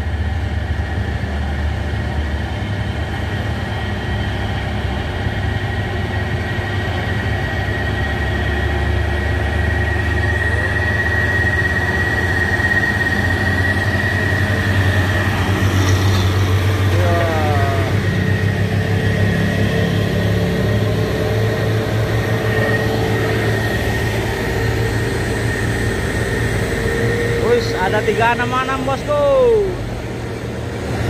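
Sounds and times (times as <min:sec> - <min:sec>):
diesel truck engines droning: 0:00.0 - 0:31.0
high engine whine: 0:00.0 - 0:31.0.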